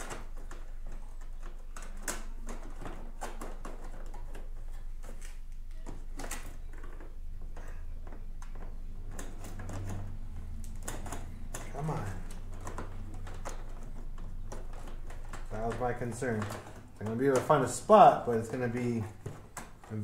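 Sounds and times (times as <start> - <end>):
wire scraping through plastic: 0.0 - 20.0.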